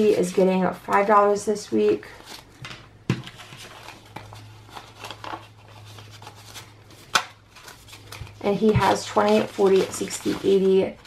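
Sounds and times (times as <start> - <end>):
banknotes rustling and flicking: 0.0 - 11.0.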